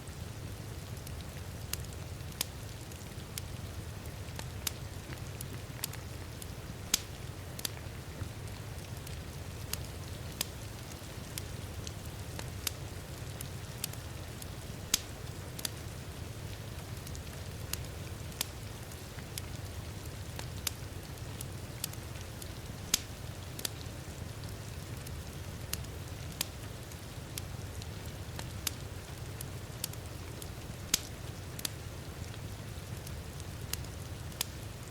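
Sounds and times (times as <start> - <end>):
wood fire crackling and popping: 0.1 - 34.9.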